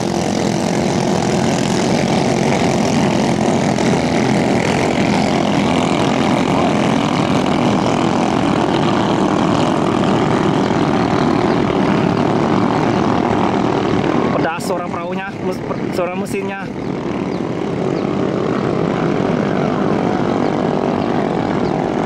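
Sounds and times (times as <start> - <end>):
high-revving boat engines: 0.0 - 22.0.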